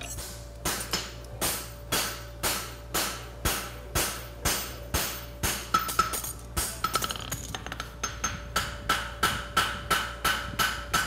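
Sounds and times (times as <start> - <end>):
hammer striking steel on anvil: 0.0 - 7.1, 7.8 - 11.0.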